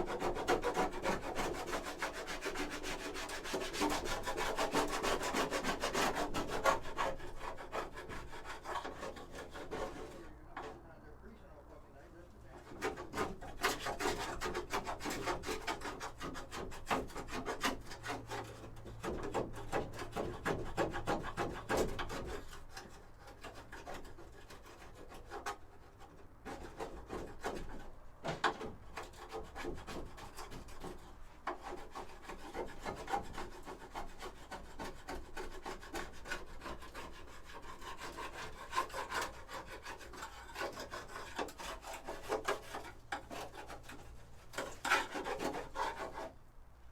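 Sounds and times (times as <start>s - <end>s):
tool scraping plastic: 0.0s - 10.8s, 12.5s - 46.4s.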